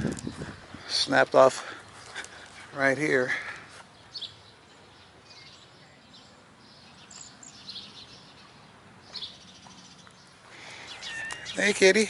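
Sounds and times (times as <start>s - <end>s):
faint birds chirping: 0.0s - 12.0s
outdoor background noise: 0.0s - 12.0s.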